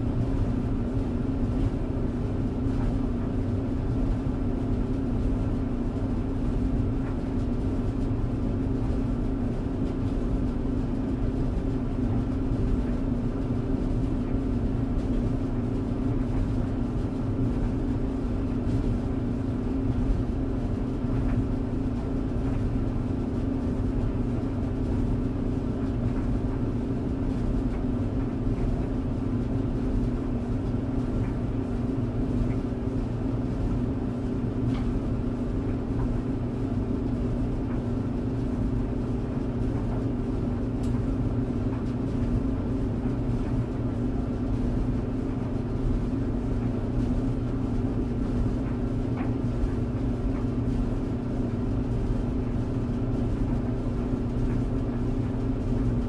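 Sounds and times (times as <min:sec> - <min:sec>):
tumble dryer running: 0:00.0 - 0:56.0.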